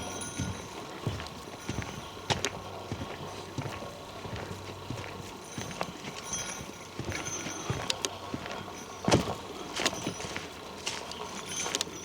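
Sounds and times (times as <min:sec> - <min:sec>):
footsteps walking: 0:00.0 - 0:12.0.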